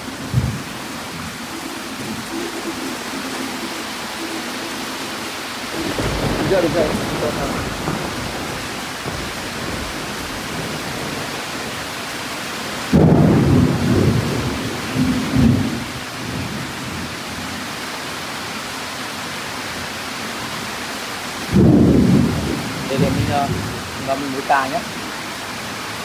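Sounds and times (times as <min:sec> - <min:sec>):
thunder rumbling: 0:00.0 - 0:17.6, 0:21.5 - 0:25.0
heavy rain falling: 0:00.0 - 0:26.0.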